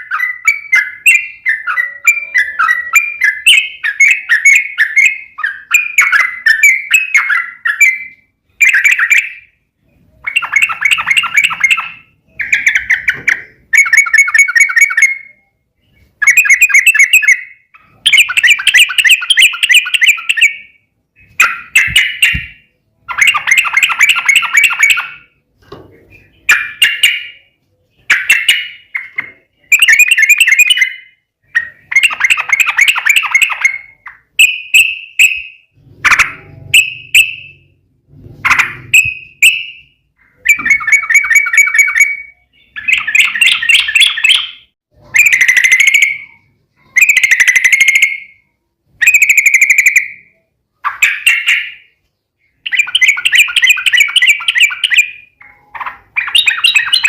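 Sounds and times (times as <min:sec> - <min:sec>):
bird singing chattering phrases: 0:00.0 - 0:25.4, 0:26.0 - 0:37.7, 0:38.5 - 0:57.0.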